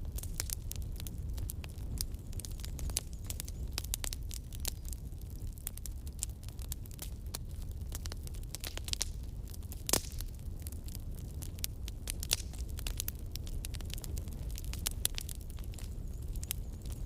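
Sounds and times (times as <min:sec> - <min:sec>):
burning wood crackling: 0:00.0 - 0:17.0
flames rumbling: 0:00.0 - 0:17.0.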